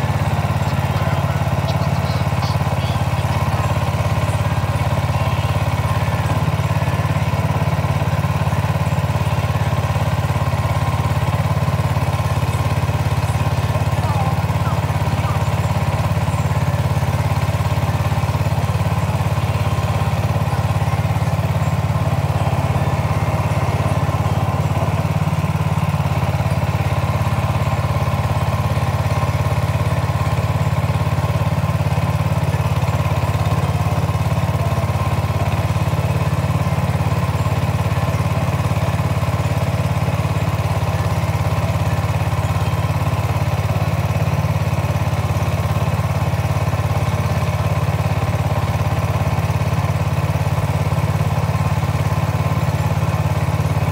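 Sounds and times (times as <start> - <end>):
boat engine humming: 0.0 - 53.9.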